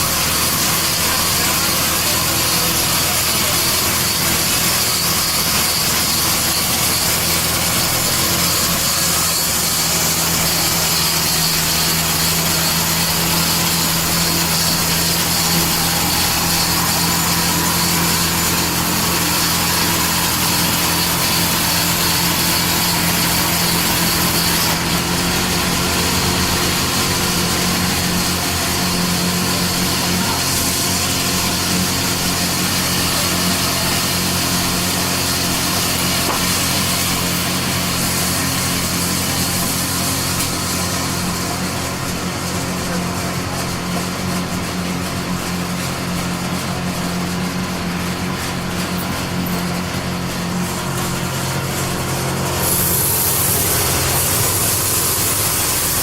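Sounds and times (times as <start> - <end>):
sawmill saw running: 0.0 - 56.0.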